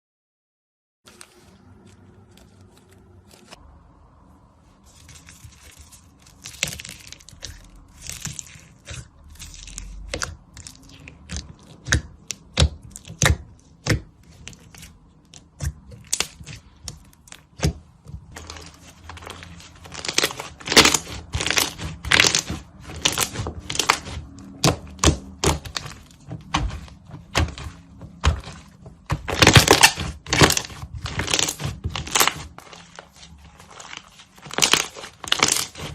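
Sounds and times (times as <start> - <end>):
slime popping and crackling: 5.2 - 35.9.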